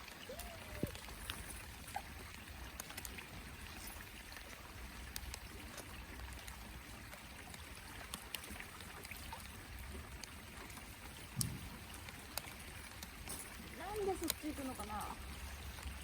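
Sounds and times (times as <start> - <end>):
light rain on a boat: 0.0 - 16.0.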